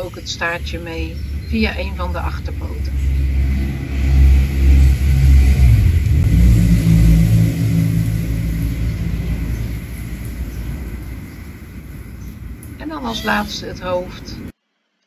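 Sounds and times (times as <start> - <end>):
vehicle engine accelerating: 0.0 - 13.1.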